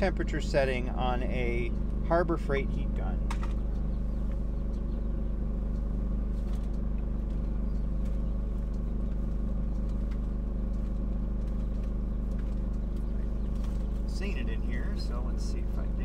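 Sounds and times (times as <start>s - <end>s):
generator engine droning: 0.0s - 16.0s.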